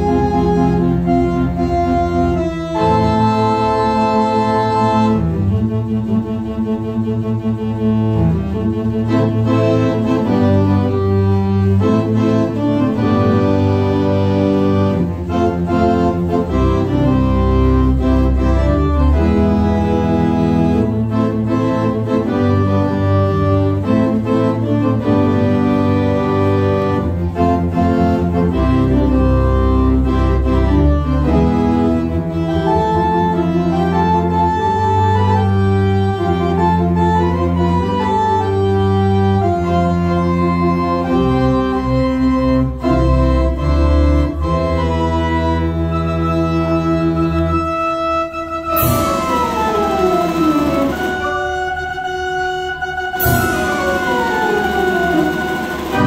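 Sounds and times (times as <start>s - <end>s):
pipe organ playing: 0.0s - 56.0s.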